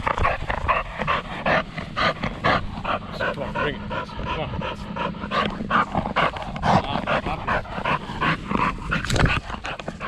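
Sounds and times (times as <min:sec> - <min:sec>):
dog panting: 0:00.0 - 0:10.0.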